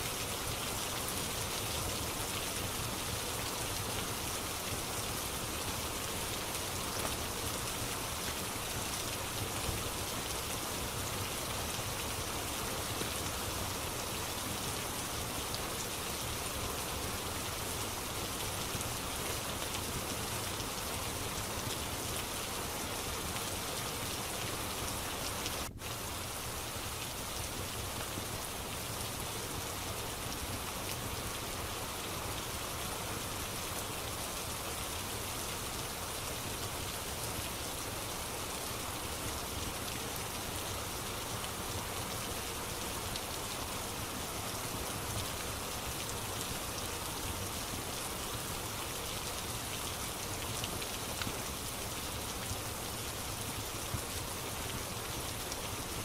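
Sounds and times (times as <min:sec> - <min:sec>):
steady rain on a surface: 0:00.0 - 0:56.0.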